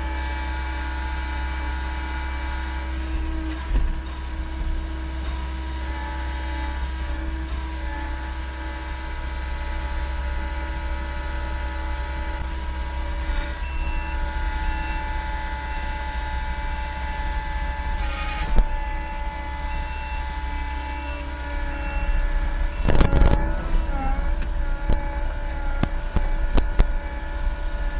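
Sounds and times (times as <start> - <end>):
heavy equipment engine running: 0.0 - 27.9.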